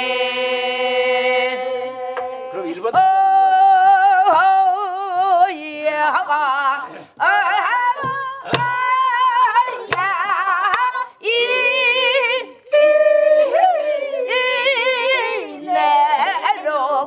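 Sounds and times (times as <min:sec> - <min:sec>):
group singing along: 0:00.0 - 0:17.0
woman singing folk song: 0:00.0 - 0:17.0.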